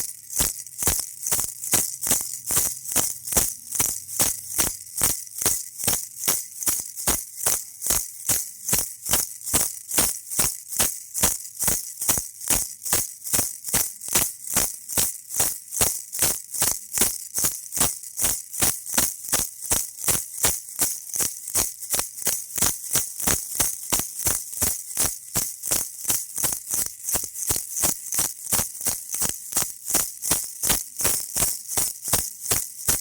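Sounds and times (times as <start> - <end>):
baby rattle shaken: 0.0 - 33.0.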